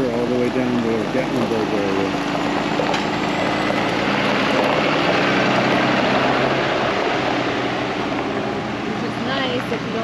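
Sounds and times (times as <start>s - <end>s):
trolley bus engine running: 0.0s - 10.0s.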